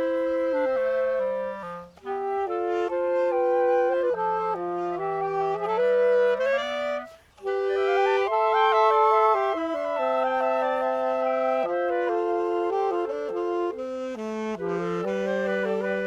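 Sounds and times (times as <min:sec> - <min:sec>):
woodwind trio playing chords: 0:00.0 - 0:16.0.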